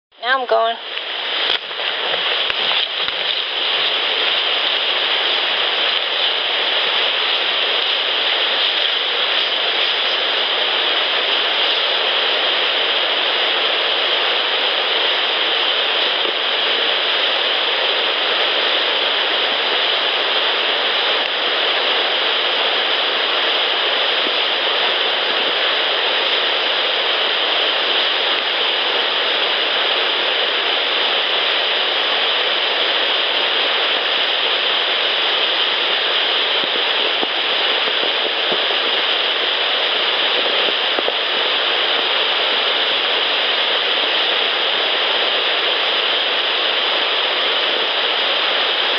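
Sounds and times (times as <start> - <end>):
constant bright hiss: 0.2 - 48.9.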